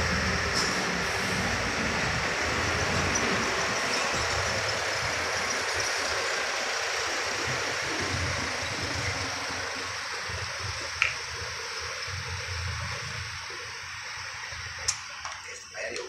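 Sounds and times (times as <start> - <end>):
truck engine rumble: 0.0 - 16.0
tyre and road noise: 0.0 - 16.0.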